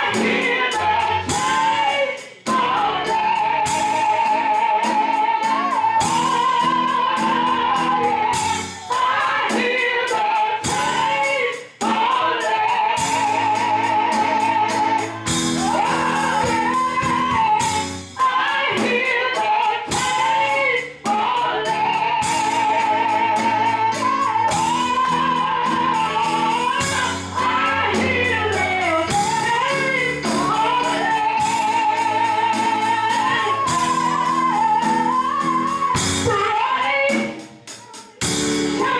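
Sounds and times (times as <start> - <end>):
solo voice singing with vibrato: 0.0 - 37.4.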